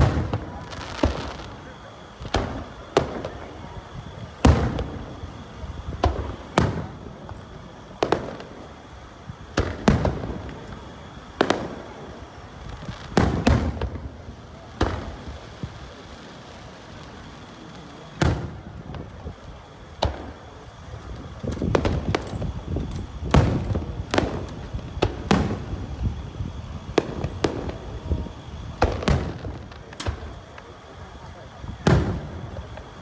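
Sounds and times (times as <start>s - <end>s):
firework shells booming: 0.0s - 33.0s.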